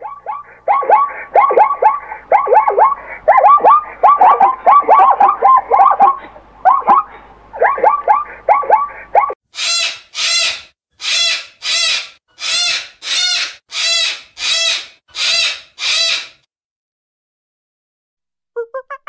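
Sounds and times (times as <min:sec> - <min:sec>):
cockatoo screeching: 0:00.0 - 0:07.0, 0:07.6 - 0:16.5.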